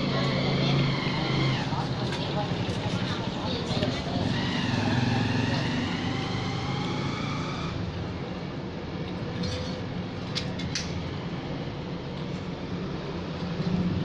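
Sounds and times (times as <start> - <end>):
road traffic and motorbikes: 0.0 - 14.0.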